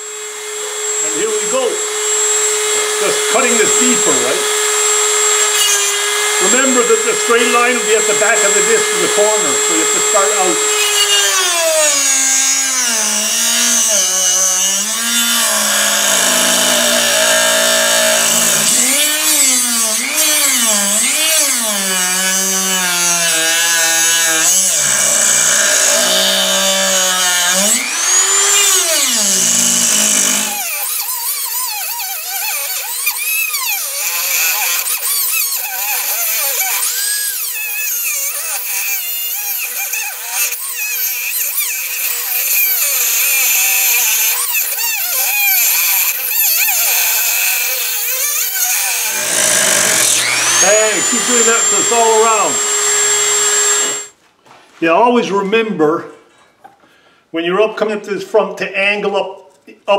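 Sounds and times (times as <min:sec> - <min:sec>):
rotary tool grinding wood: 0:00.0 - 0:54.2.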